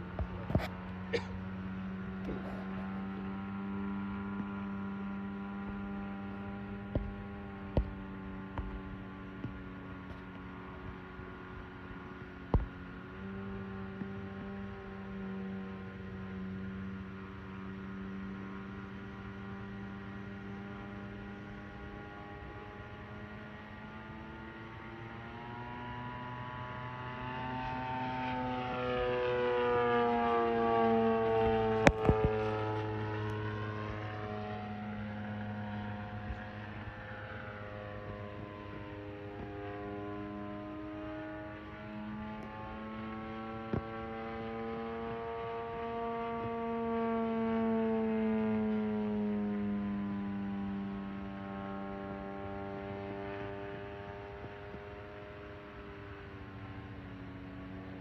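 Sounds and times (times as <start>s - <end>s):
model plane motor droning: 0.0s - 58.0s.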